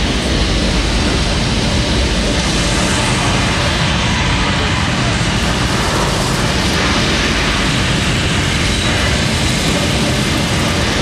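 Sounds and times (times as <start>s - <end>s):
rocket launch roar over loudspeakers: 0.0s - 11.0s.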